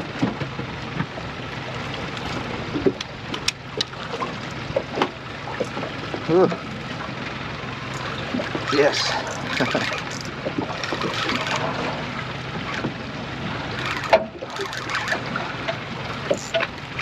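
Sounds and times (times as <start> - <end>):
boat motor: 0.0 - 17.0
wind: 0.0 - 17.0.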